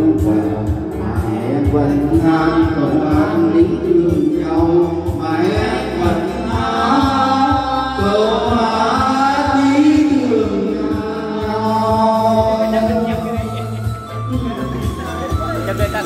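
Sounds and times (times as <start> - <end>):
backing music with bass beat: 0.0 - 16.0
group singing: 0.2 - 13.8.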